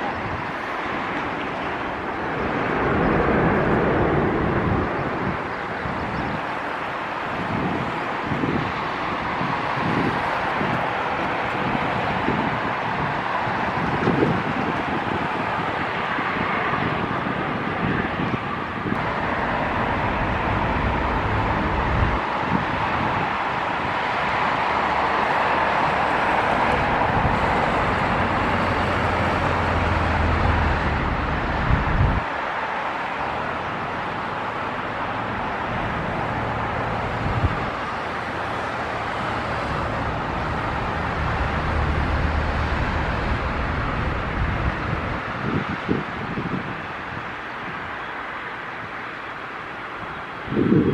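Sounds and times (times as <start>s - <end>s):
jet engines and airflow: 0.0s - 50.9s.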